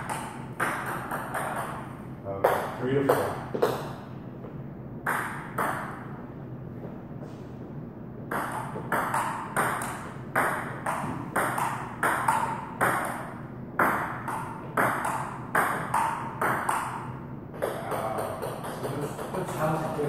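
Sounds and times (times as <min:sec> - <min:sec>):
ping-pong ball hitting paddles: 0:00.0 - 0:04.1, 0:05.0 - 0:06.2, 0:08.3 - 0:20.0.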